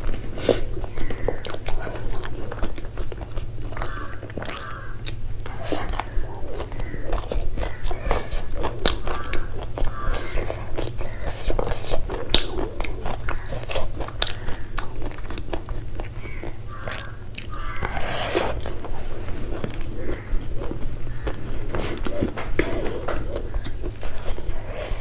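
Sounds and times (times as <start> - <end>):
steady low hum: 0.0 - 25.0
wet chewing and mouth smacking: 0.0 - 25.0.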